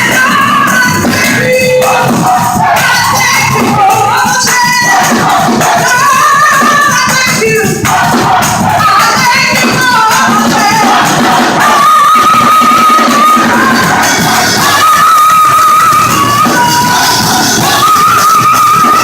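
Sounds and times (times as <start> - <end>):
steady percussion: 0.0 - 19.0
voices singing gospel: 0.0 - 19.0.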